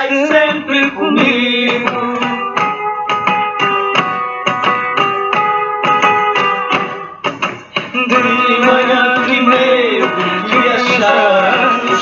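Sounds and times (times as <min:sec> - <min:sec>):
plucked guitars: 0:00.0 - 0:12.0.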